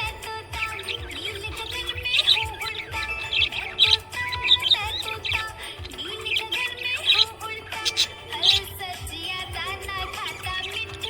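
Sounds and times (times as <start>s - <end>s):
background music: 0.0s - 11.0s
budgerigars chirping: 0.0s - 11.0s.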